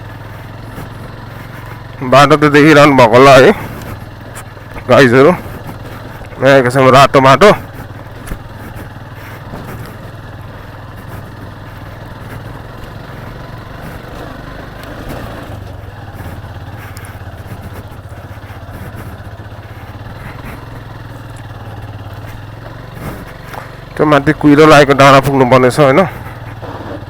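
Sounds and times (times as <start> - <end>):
motorcycle engine running: 0.0 - 27.0
road and wind noise: 0.0 - 27.0.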